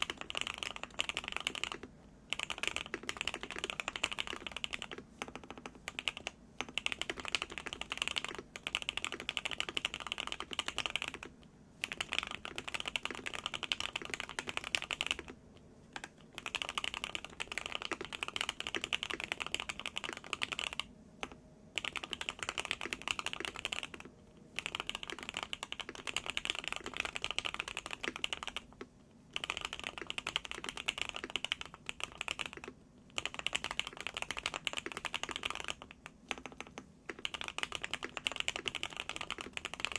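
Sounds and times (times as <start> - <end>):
mechanical keyboard typing: 0.0 - 15.4, 16.0 - 39.9.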